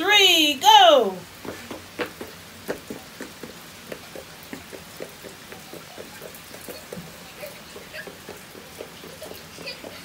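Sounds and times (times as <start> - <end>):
pouring rain: 0.0 - 10.0.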